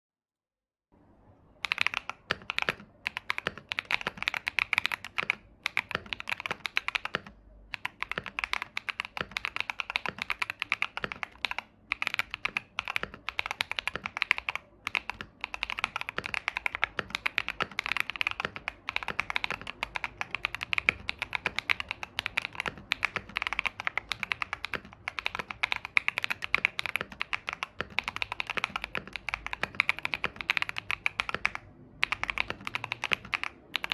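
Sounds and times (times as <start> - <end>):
fast typing on mechanical keyboard: 1.6 - 33.9.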